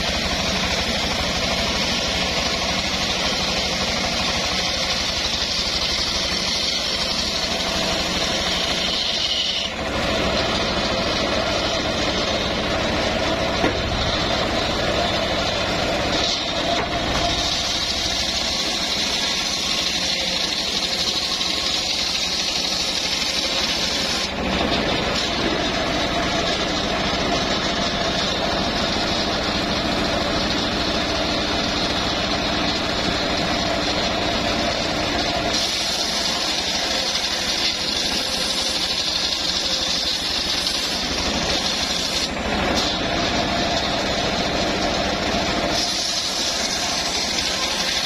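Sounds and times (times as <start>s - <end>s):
engine running: 0.0s - 48.0s
saw blade cutting log: 0.0s - 48.0s.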